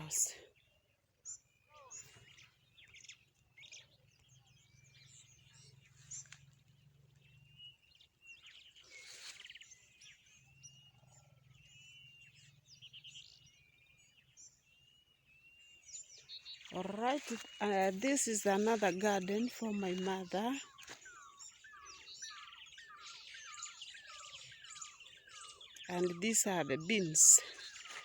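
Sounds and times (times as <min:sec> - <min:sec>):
birds chirping and whistling: 0:00.0 - 0:28.0.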